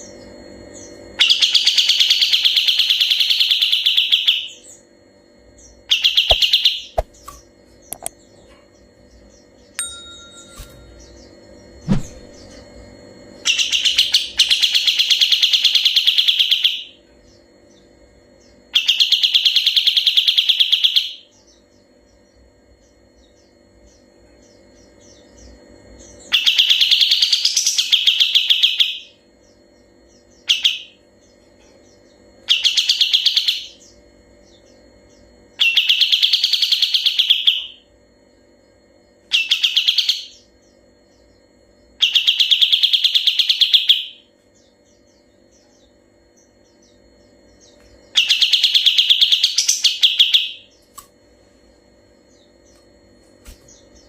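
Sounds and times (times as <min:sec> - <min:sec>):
bird singing rolling trills: 0:00.0 - 0:54.0.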